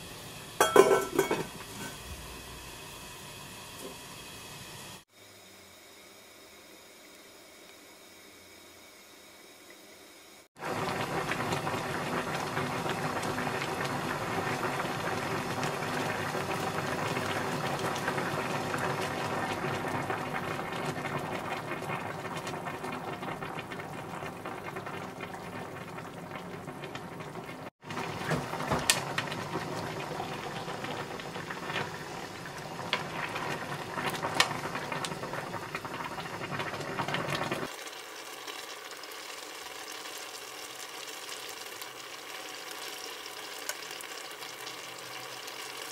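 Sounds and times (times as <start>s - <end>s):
broth bubbling in a pan: 0.0s - 45.9s.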